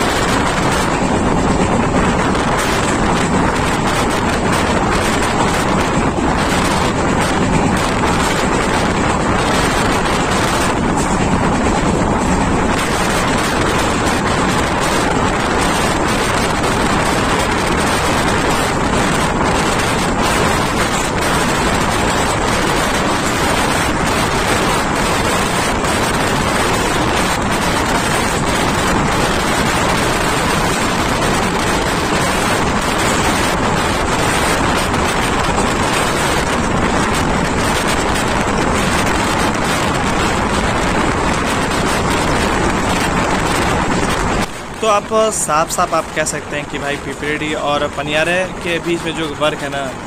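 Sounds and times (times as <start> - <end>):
train wheels on track: 0.0 - 50.0
wind buffeting microphone: 0.0 - 50.0.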